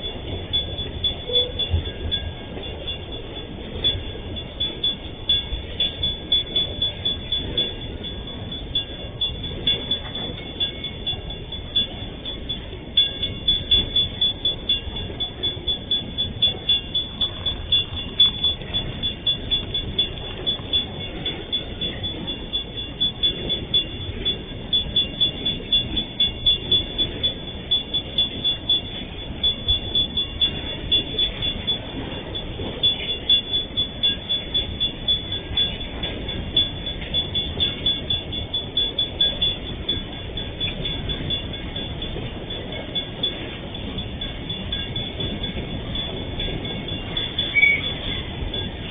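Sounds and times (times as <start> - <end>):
freight train rumbling past: 0.0 - 48.9
high-pitched tone: 0.0 - 48.9
level crossing bell ringing: 0.0 - 48.9.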